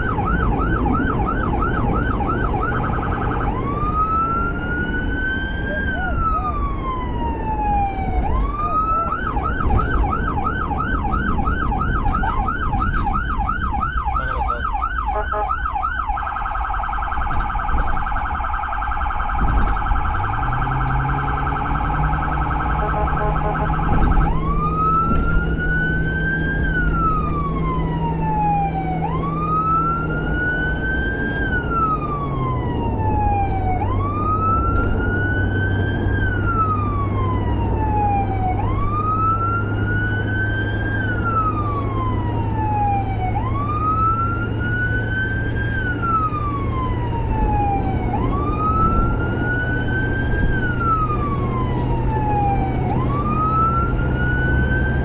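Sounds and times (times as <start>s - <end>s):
emergency vehicle siren: 0.0s - 55.0s
engine and road noise: 0.0s - 55.0s.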